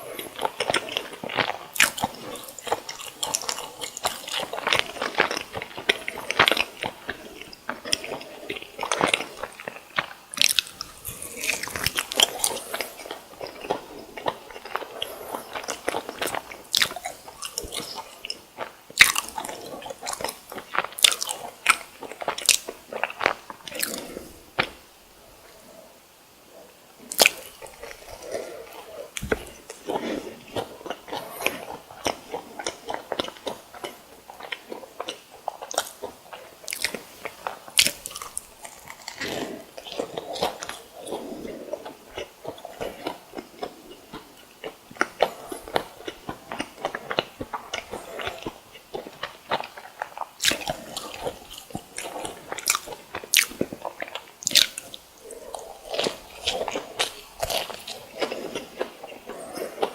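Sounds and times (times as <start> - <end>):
crunchy snacks being chewed: 0.0 - 24.8, 26.6 - 59.9.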